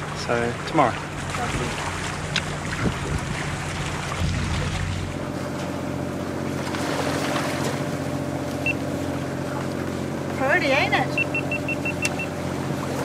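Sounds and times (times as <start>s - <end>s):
boat engine drone: 0.0s - 13.0s
water rushing along hull: 0.0s - 13.0s.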